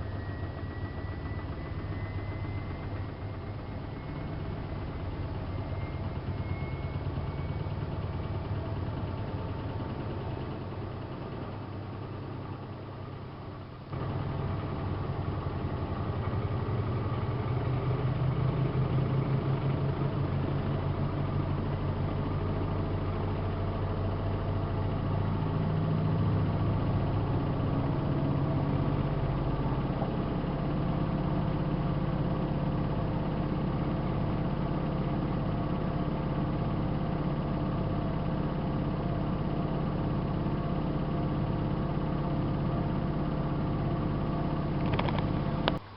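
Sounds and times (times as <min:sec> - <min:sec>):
washing machine humming: 0:00.0 - 0:45.9.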